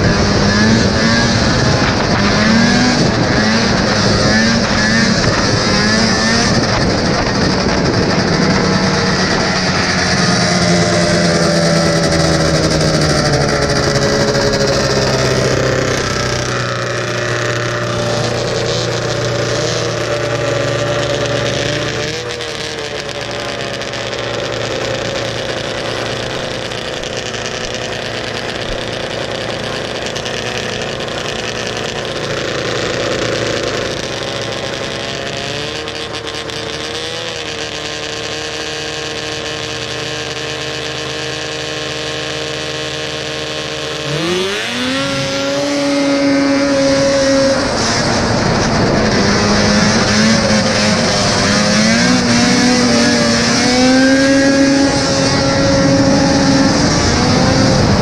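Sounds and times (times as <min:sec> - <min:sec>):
snowmobile two-stroke engine: 0:00.0 - 0:58.0.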